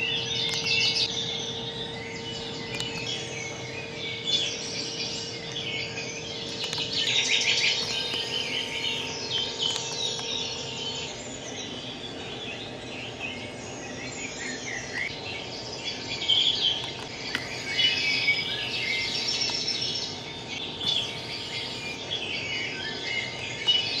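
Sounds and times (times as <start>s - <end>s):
small birds chirping and twittering: 0.0s - 24.0s.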